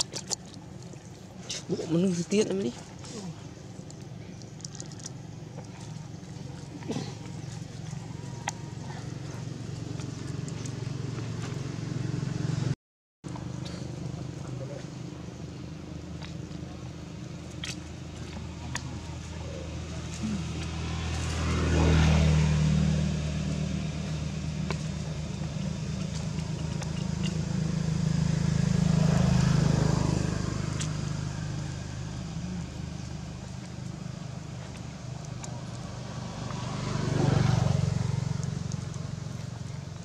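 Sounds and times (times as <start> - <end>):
low engine drone: 0.0 - 40.0
vehicles passing by: 0.0 - 40.0.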